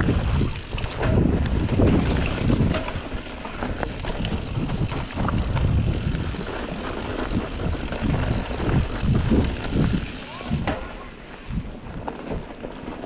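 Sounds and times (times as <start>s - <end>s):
wind rumble on microphone: 0.0s - 12.9s
bike rattling clicks: 0.0s - 13.0s
tyres rolling on dirt: 0.0s - 13.0s.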